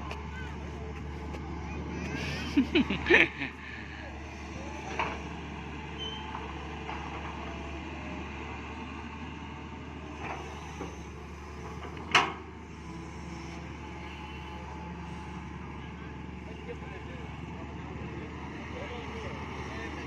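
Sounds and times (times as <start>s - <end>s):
excavator running: 0.0s - 20.0s.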